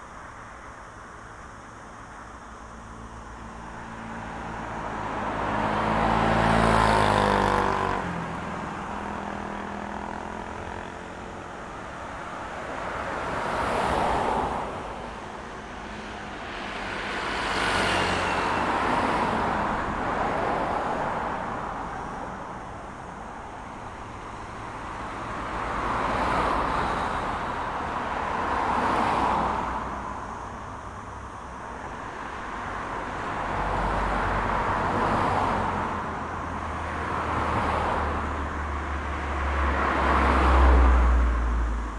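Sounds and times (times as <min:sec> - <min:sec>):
cars passing: 0:02.2 - 0:41.9.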